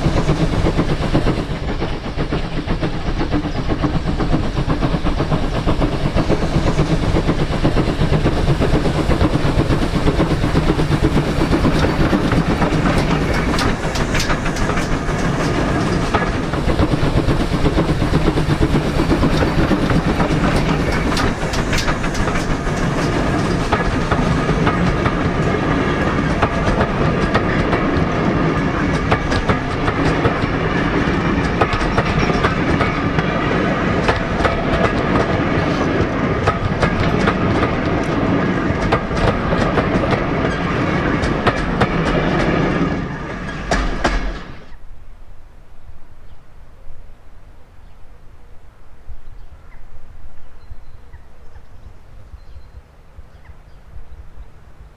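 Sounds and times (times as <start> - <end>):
wheels clicking over rail joints: 0.0 - 44.8
steam train running: 0.0 - 54.9.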